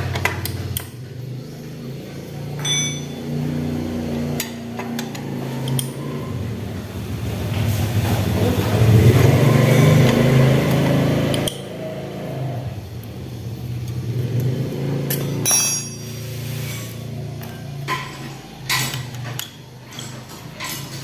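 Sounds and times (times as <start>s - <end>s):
engine-like rumble: 0.0s - 21.0s.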